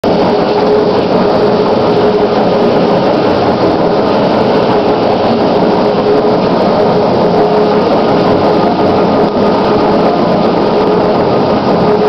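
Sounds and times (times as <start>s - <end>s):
metal lathe running: 0.0s - 12.0s.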